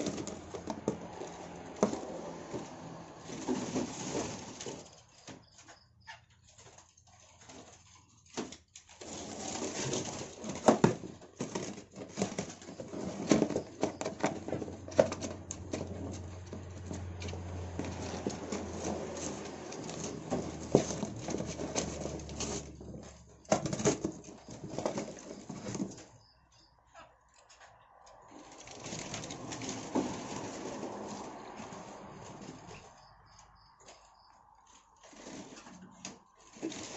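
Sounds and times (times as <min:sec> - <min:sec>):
birds fluttering and scrabbling: 0:00.0 - 0:36.9
knocks and rustling: 0:00.0 - 0:36.9.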